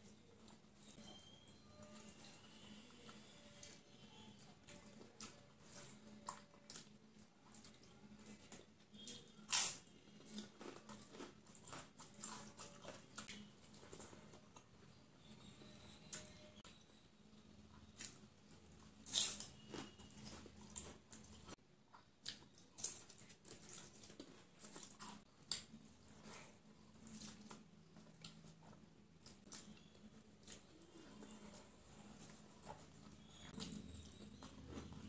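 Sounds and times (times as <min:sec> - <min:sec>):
crunching crisp food: 0:01.2 - 0:16.3, 0:17.9 - 0:21.6, 0:22.2 - 0:35.0.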